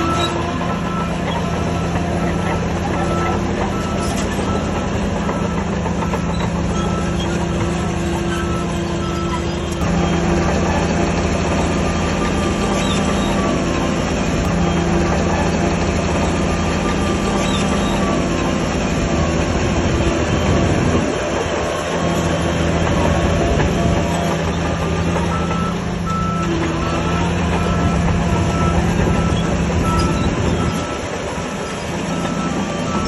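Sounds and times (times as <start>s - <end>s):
reversing alarm beeping: 0.0s - 18.6s, 22.6s - 33.0s
clanking steel tracks: 0.0s - 33.0s
diesel engine under load: 0.0s - 33.0s.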